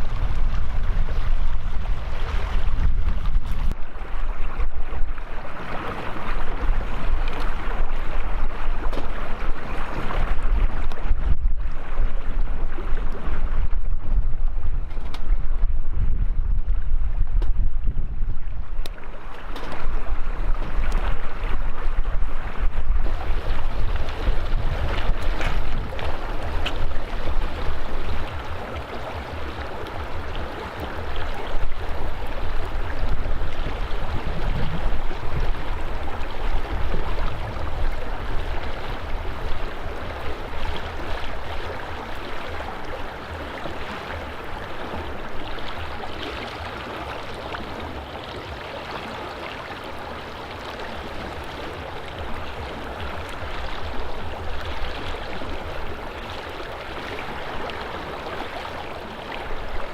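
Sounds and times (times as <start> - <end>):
stream rushing: 0.0 - 13.8, 18.6 - 59.9
wind buffeting microphone: 0.0 - 48.8.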